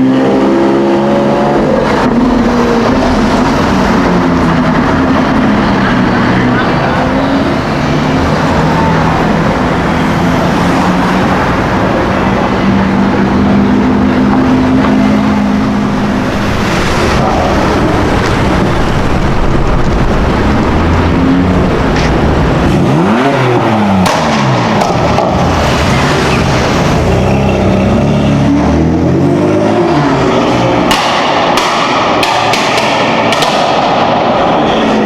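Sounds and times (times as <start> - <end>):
car engine running and revving: 0.0 - 35.0.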